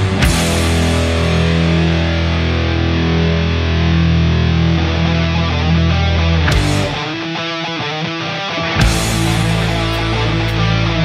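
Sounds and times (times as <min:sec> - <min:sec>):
heavy rock electric guitar: 0:00.0 - 0:11.0.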